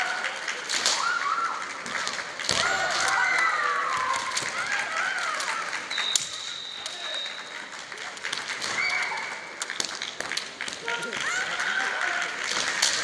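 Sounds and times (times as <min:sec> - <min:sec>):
fencers shouting: 0:00.0 - 0:07.4, 0:08.5 - 0:09.6, 0:10.6 - 0:13.0
bamboo swords clacking: 0:00.2 - 0:07.1, 0:07.8 - 0:13.0.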